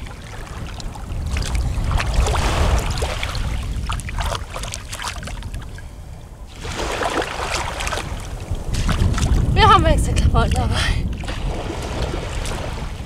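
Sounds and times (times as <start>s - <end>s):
seawater lapping and splashing: 0.0s - 13.0s
wind rumble on microphone: 0.0s - 13.0s.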